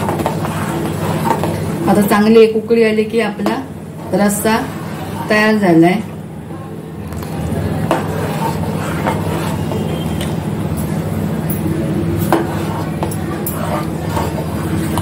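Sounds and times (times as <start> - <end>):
ladle stirring boiling gravy: 0.0 - 15.0
steady low hum: 0.0 - 15.0.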